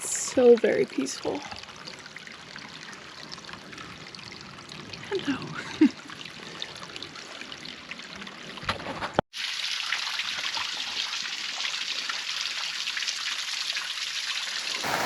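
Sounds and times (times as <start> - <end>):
creek trickling over rocks: 0.0 - 15.0.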